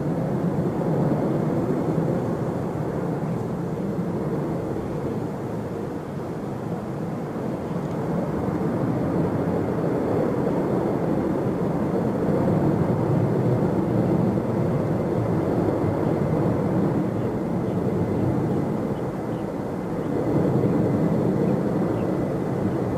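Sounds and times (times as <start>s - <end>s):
jet engines rumbling on takeoff: 0.0s - 22.9s.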